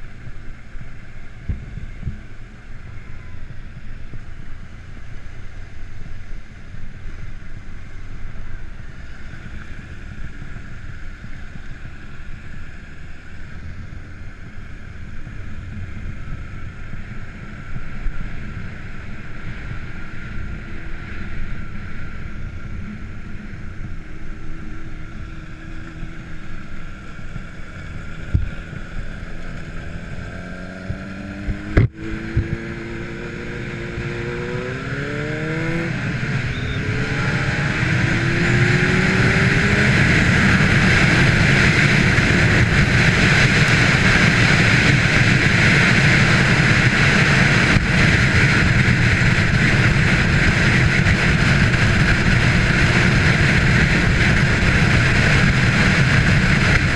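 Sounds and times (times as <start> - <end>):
motorcycle engine accelerating: 0.0 - 56.9
wind rush on microphone: 0.0 - 56.9.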